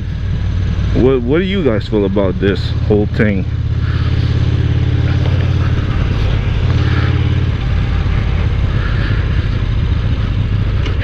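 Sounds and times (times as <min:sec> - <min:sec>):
motorcycle engine beat: 0:00.0 - 0:11.0
wind and road rush: 0:00.0 - 0:11.0.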